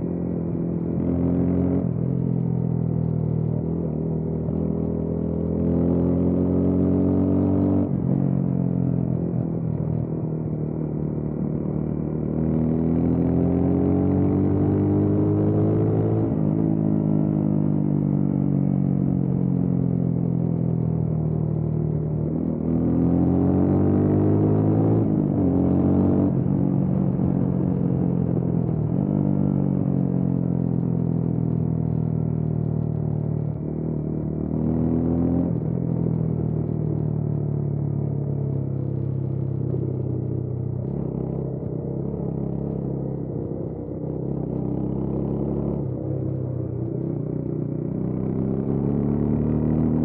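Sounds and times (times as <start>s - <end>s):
motorcycle engine accelerating: 0.0s - 21.2s, 21.9s - 50.0s.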